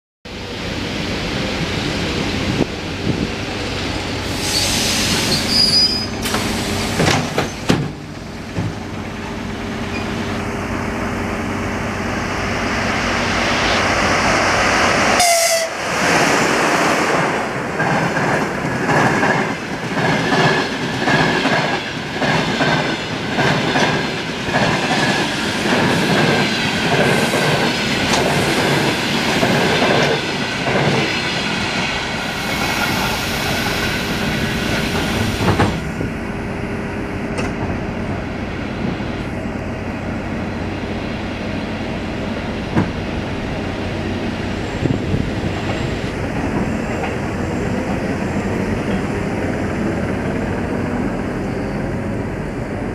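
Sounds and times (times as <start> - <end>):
train rumble: 0.3 - 52.9.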